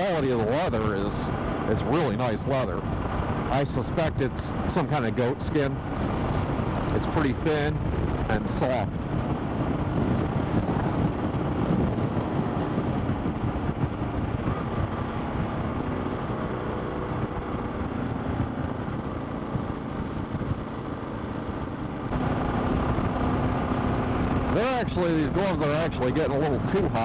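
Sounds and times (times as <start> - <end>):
motorcycle engine drone: 0.0 - 27.0
road and wind noise: 0.0 - 27.0.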